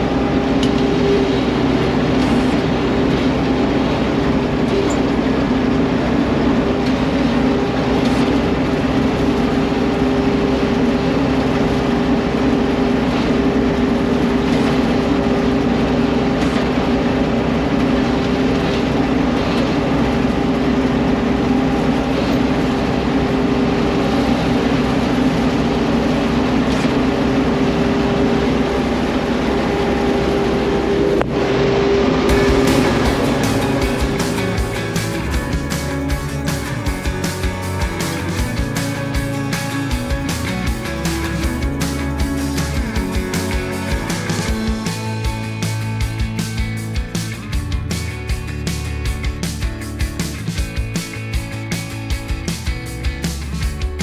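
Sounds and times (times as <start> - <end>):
combine harvester running: 0.0 - 49.6.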